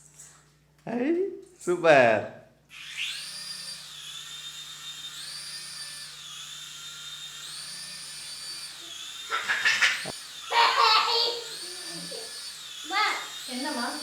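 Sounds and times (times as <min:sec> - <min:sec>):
toy helicopter motors whining: 0:02.7 - 0:14.0.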